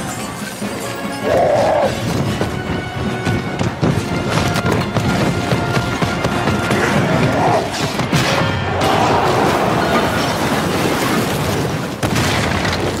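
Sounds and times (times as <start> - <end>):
action film music: 0.0 - 10.8.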